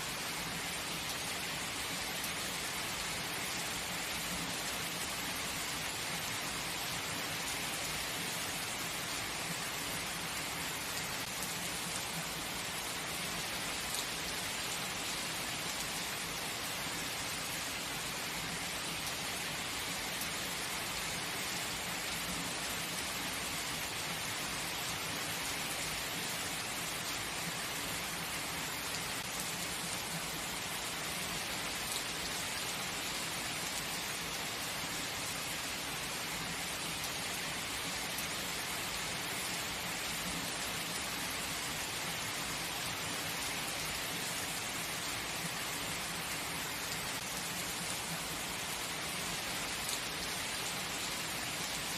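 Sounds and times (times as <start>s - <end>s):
heavy rain falling: 0.1s - 51.9s.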